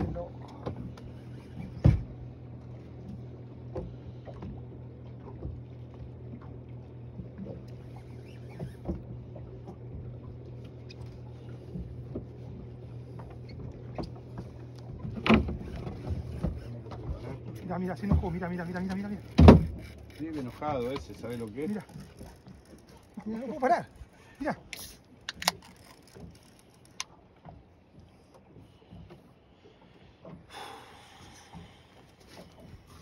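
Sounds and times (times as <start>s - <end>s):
boat motor humming: 0.0s - 33.0s
water splashing against hull: 0.0s - 33.0s.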